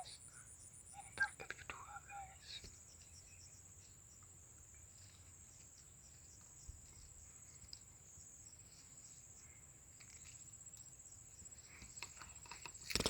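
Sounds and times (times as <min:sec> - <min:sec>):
faint ticks: 0:00.0 - 0:08.0, 0:08.7 - 0:13.0
insects trilling: 0:00.0 - 0:13.0.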